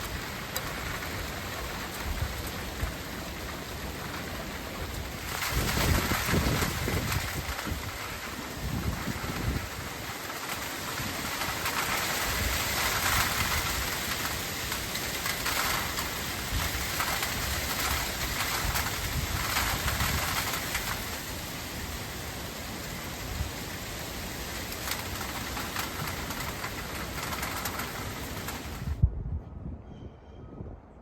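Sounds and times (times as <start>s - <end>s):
heavy rain hissing: 0.0s - 29.0s
wind rumble on microphone: 0.0s - 31.0s.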